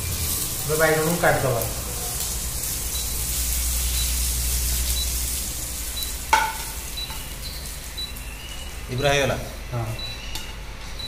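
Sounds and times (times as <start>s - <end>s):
eggplant sizzling in hot oil: 0.0s - 9.6s.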